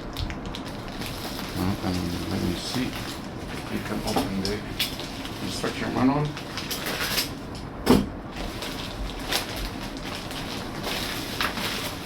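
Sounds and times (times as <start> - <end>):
packaging rustling: 0.0 - 7.6, 8.3 - 12.0.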